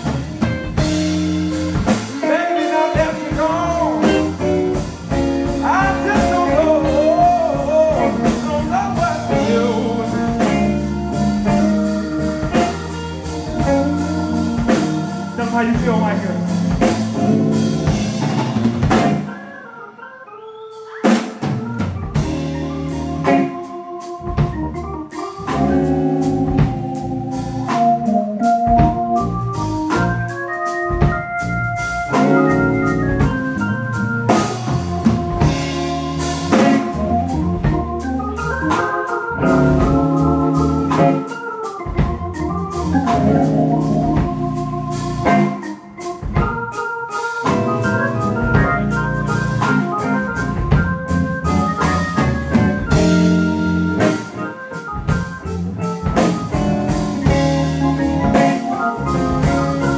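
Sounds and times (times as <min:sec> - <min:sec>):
drums: 0:00.0 - 0:19.7, 0:20.8 - 0:59.9
blues band playing live: 0:00.0 - 0:59.9
organ solo on keyboard: 0:00.0 - 0:59.9.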